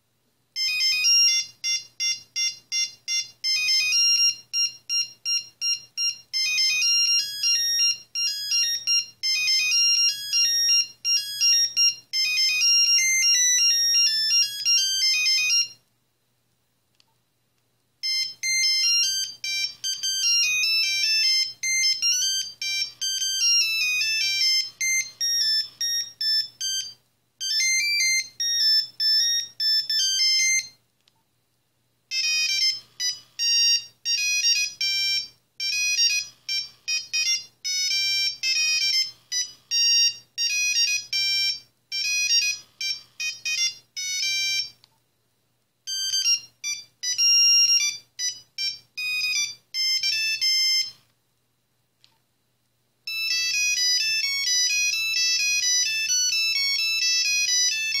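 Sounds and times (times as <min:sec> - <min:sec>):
monophonic ringtone melodies: 0:00.6 - 0:15.8, 0:18.0 - 0:30.8, 0:32.1 - 0:44.8, 0:45.9 - 0:51.0, 0:53.1 - 0:58.0.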